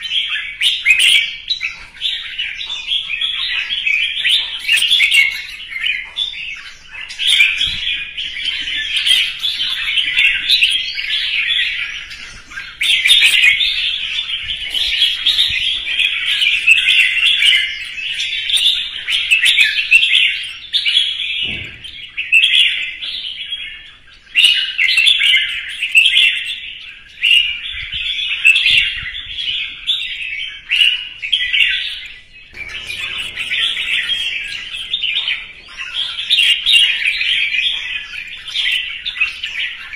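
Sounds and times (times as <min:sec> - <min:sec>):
bird singing chattering whistles: 0:00.0 - 0:39.9.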